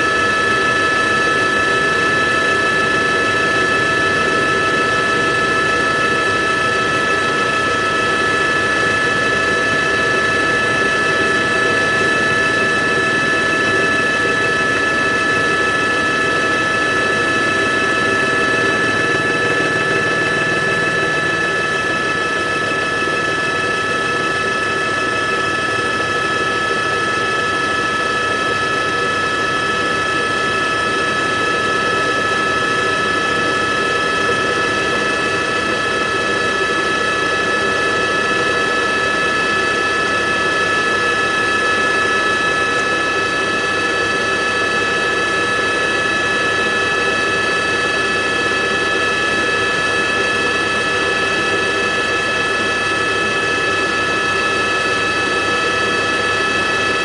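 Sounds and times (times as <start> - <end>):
helicopter drone with whining tones: 0.0 - 57.0.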